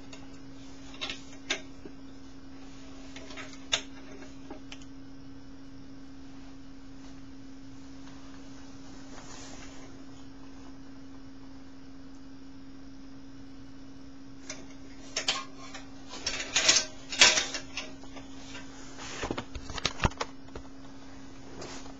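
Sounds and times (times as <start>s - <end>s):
steady hum: 0.0s - 21.9s.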